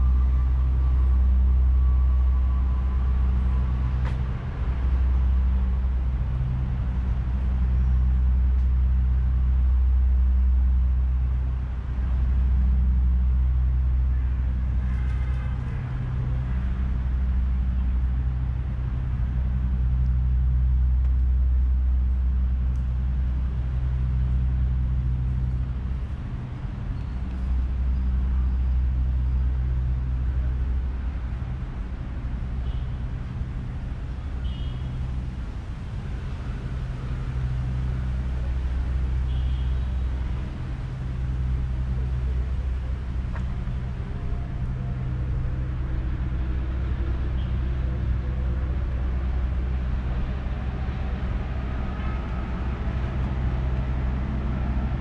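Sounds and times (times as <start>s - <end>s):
city traffic rumble: 0.0s - 55.0s
low engine hum: 0.0s - 55.0s.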